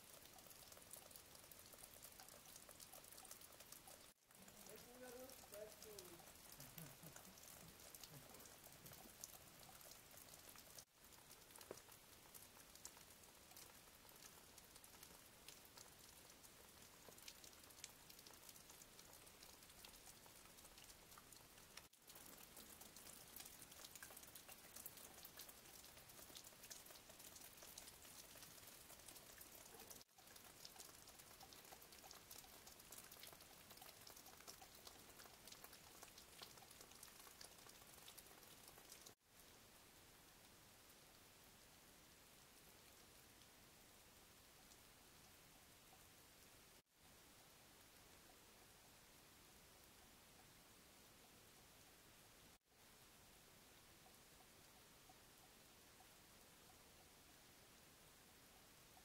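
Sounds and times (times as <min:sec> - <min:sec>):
water dripping from icicles: 0:00.0 - 0:39.7, 0:40.4 - 0:53.1, 0:53.7 - 0:59.0.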